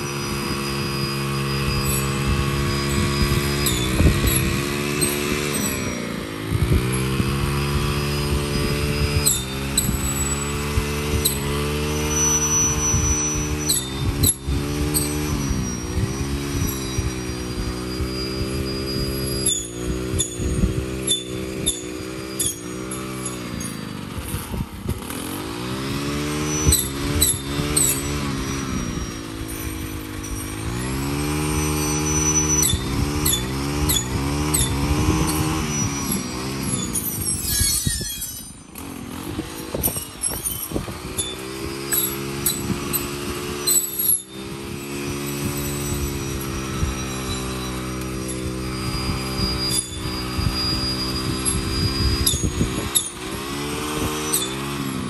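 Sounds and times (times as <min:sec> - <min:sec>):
string trimmer engine: 0:00.0 - 0:55.0.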